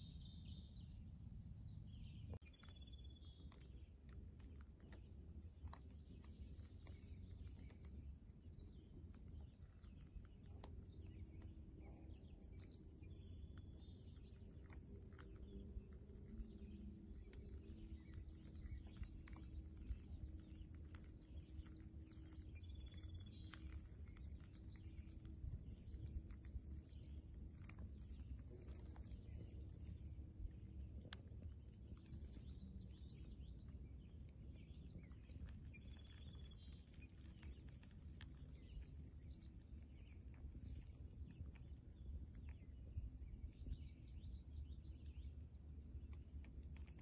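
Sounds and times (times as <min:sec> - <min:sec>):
low steady rumble: 0:00.0 - 0:47.0
songbirds chirping: 0:00.0 - 0:47.0.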